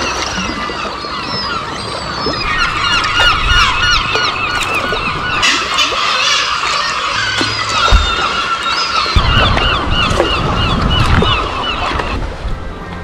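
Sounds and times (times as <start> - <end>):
seabird colony calling: 0.0 - 12.9.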